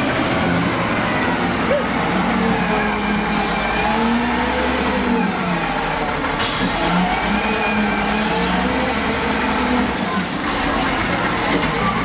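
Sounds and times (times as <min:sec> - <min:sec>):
loader diesel engine under load: 0:00.0 - 0:12.0.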